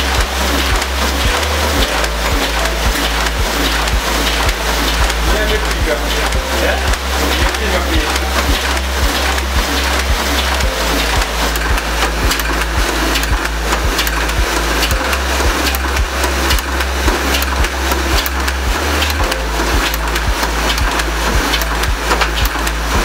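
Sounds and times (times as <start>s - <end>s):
background music with deep bass: 0.0s - 23.0s
printing press clattering: 0.0s - 23.0s.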